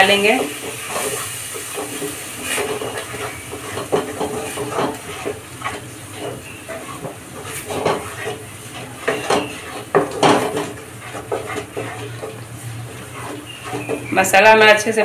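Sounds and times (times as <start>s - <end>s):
wooden spatula scraping pan: 0.0s - 15.0s.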